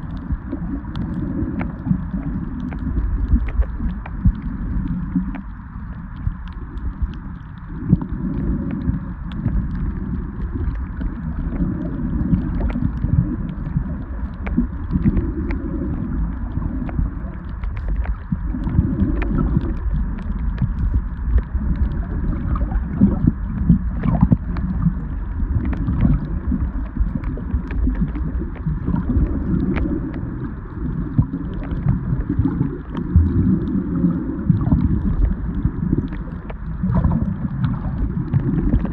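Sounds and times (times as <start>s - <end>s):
faint underwater clicks and crackles: 0.0s - 38.9s
muffled underwater rush: 0.0s - 38.9s.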